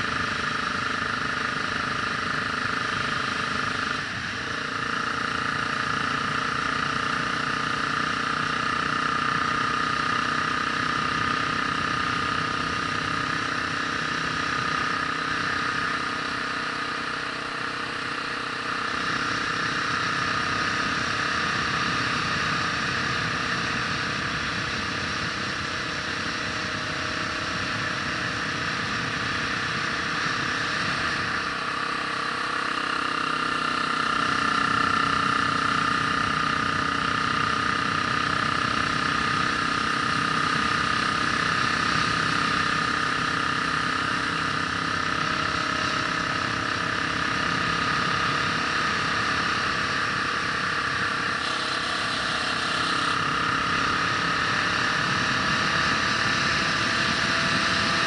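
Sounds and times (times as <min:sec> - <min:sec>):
steady whine: 0:00.0 - 0:58.0
vehicle engine running: 0:00.0 - 0:58.0.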